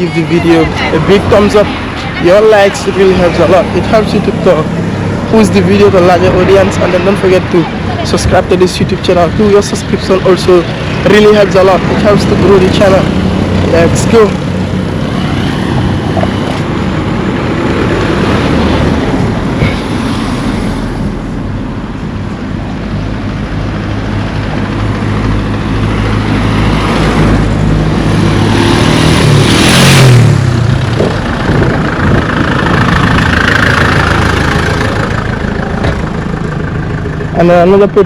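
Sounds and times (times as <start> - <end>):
vehicle engines running: 0.0 - 38.0
vehicle passing: 0.0 - 38.0.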